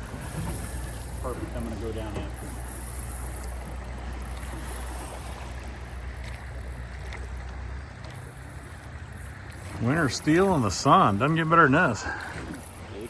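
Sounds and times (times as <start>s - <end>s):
moving river water: 0.0s - 13.0s.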